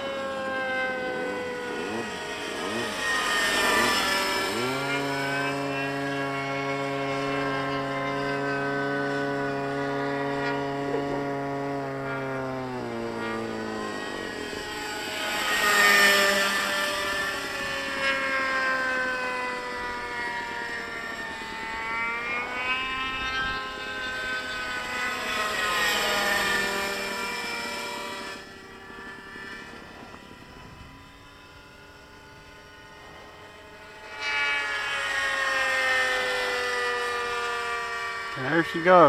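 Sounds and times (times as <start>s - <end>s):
model helicopter engine and rotor whine: 0.0s - 39.0s.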